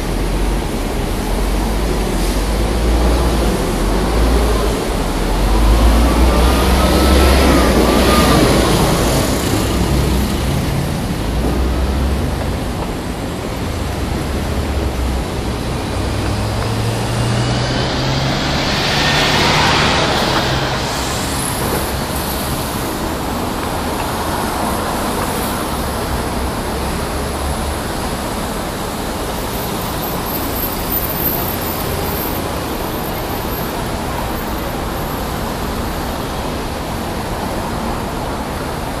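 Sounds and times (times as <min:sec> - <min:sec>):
street traffic of passing cars: 0:00.0 - 0:39.0.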